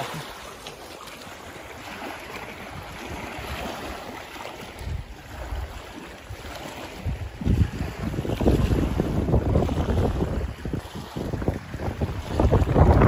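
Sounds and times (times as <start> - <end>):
waves lapping on rocks: 0.0 - 13.0
wind on microphone: 1.9 - 13.0.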